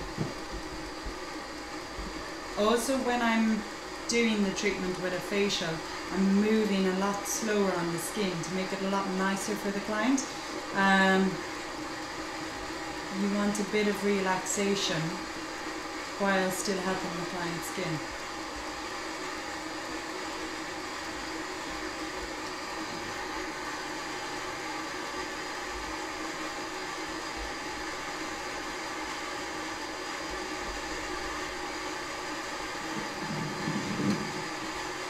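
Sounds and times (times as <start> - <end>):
facial steamer hissing and humming: 0.0 - 35.0.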